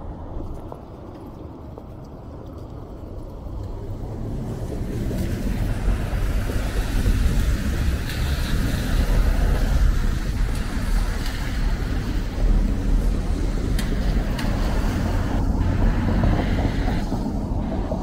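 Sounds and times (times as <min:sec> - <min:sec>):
cars passing on wet road: 0:00.0 - 0:18.0.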